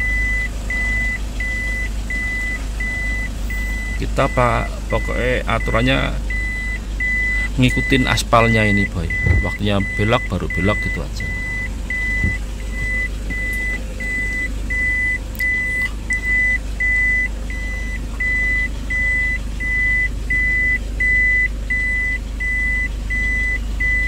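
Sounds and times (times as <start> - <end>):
diesel engine humming: 0.0 - 24.0
reversing warning beeper: 0.1 - 24.0.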